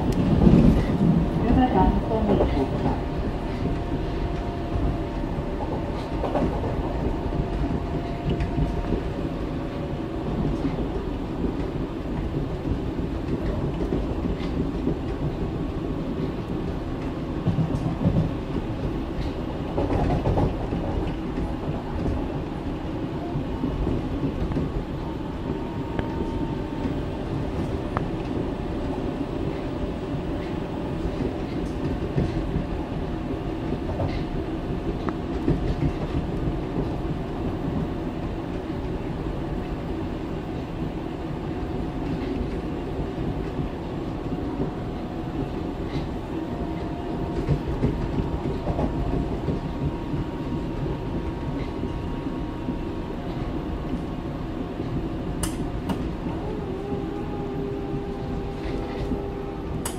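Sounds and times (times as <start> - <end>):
subway wheels rumbling on rail: 0.0 - 59.9.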